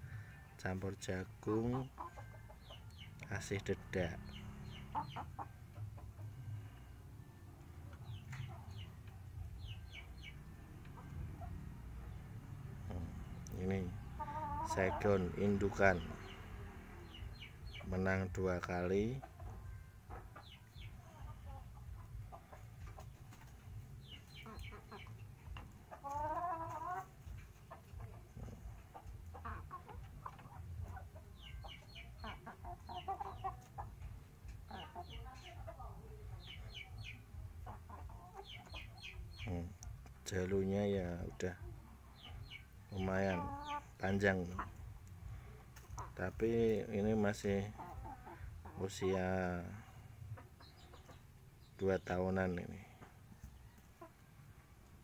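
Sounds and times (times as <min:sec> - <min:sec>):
chickens chirping softly: 0:00.0 - 0:55.0.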